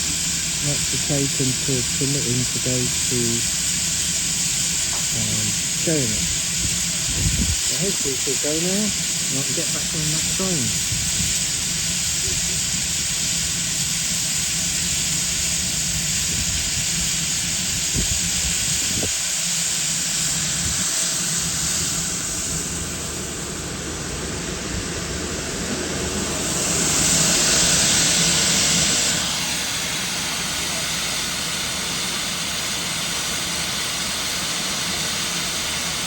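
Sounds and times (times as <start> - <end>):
steam hissing: 0.0 - 36.0.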